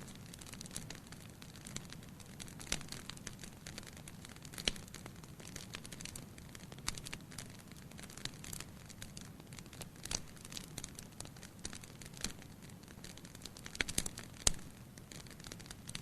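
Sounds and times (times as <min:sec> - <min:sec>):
firewood crackling and popping: 0:00.0 - 0:16.0.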